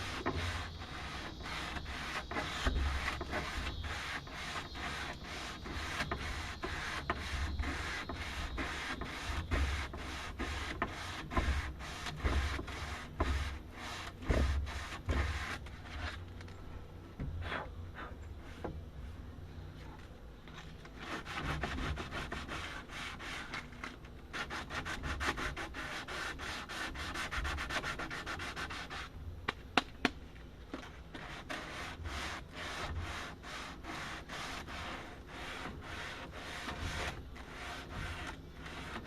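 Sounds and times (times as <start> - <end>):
sandpaper rubbing wood: 0.0 - 16.2, 21.0 - 29.1, 31.1 - 39.0.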